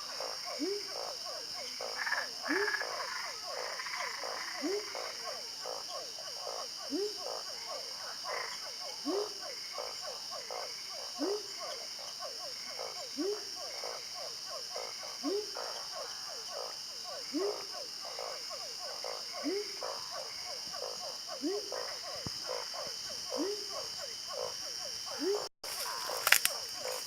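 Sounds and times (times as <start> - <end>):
chorus of frogs calling: 0.0 - 27.0.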